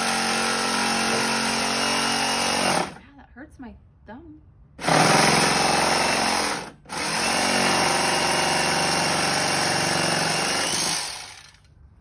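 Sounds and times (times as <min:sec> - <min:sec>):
jigsaw cutting wood: 0:00.0 - 0:03.0, 0:04.8 - 0:11.6.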